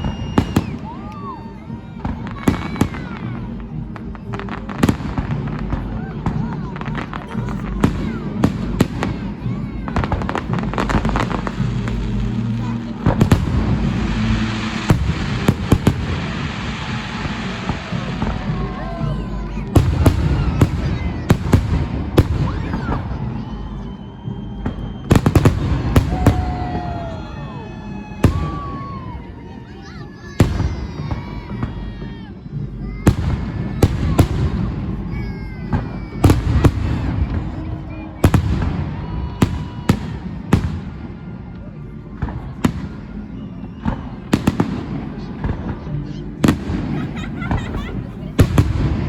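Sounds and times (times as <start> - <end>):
fireworks bangs: 0.0 - 31.9, 32.8 - 41.4, 42.2 - 49.0.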